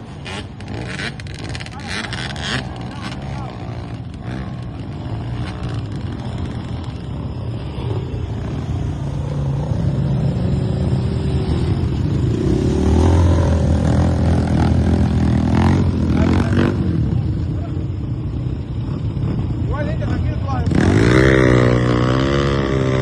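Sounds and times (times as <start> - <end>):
off-road vehicle engine revving: 0.0 - 8.7, 9.3 - 17.7, 18.4 - 23.0.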